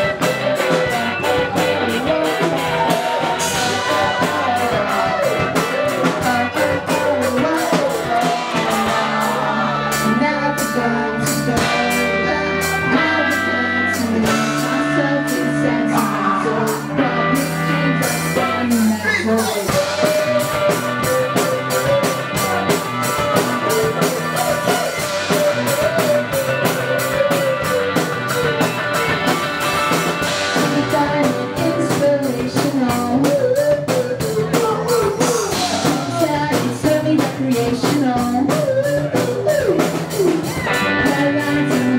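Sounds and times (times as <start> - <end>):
live pop band playing: 0.0 - 41.9
person singing through pa: 0.0 - 41.9.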